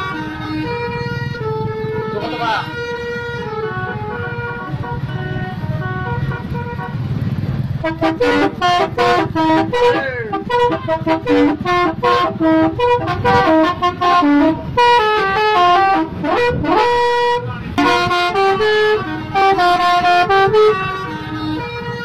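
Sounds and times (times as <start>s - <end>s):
multi-tone musical vehicle horns: 0.0s - 22.0s.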